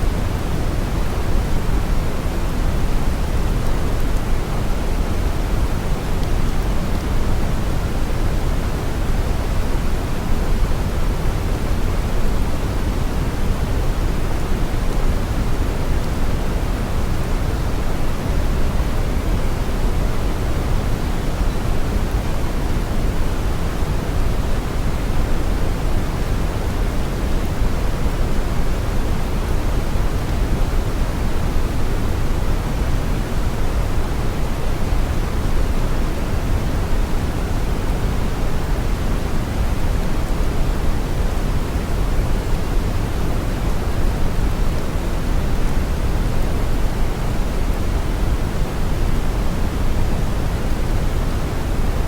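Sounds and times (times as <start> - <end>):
brown noise hiss: 0.0 - 52.0.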